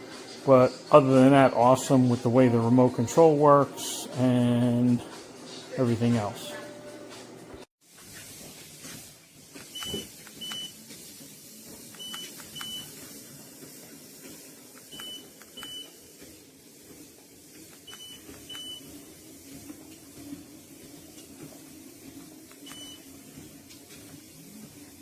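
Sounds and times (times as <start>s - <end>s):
treadmill humming: 0.0s - 25.0s.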